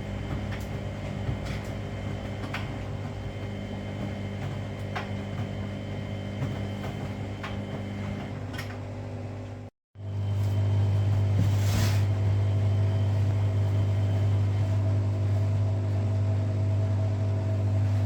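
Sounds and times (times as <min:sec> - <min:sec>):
washing machine motor hum: 0:00.0 - 0:18.0.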